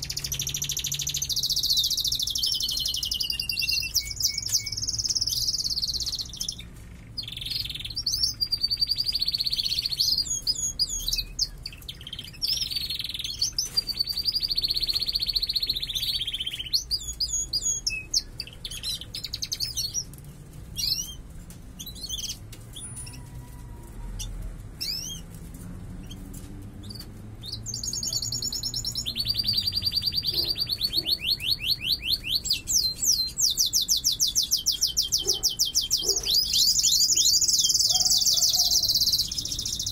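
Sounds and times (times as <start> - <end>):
canary song with rolling trills: 0.0 - 39.9.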